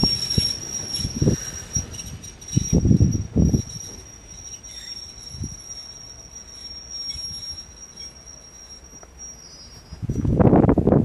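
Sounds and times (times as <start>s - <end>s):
diesel train rumbling: 0.0s - 10.9s.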